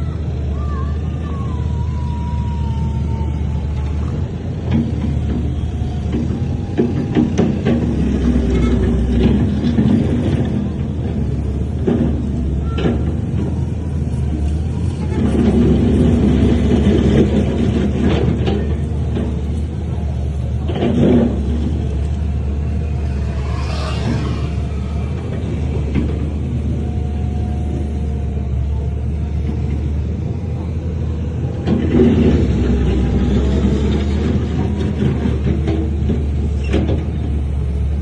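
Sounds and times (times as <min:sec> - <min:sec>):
diesel engine rumbling: 0:00.0 - 0:38.0.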